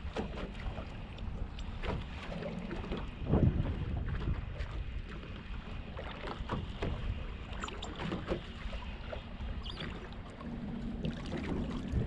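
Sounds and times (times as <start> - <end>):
waves lapping against boat hull: 0.0 - 12.0.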